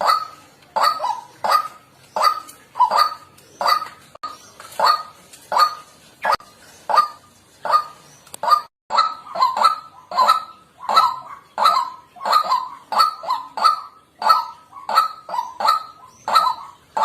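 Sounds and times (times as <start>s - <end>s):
bird harsh honking calls: 0.0s - 17.0s.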